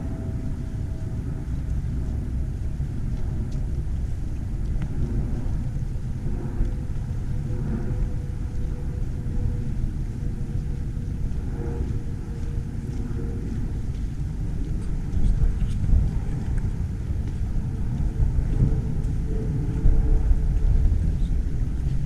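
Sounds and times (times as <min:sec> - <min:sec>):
faint steady hum: 0:00.0 - 0:22.0
low outdoor rumble: 0:00.0 - 0:22.0.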